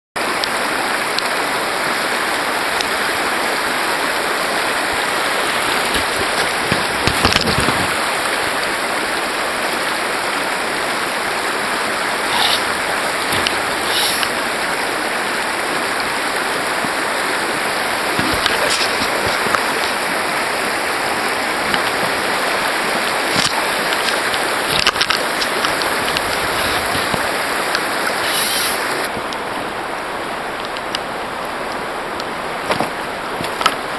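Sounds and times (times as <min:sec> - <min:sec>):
river rushing over gravel: 0:00.2 - 0:33.9.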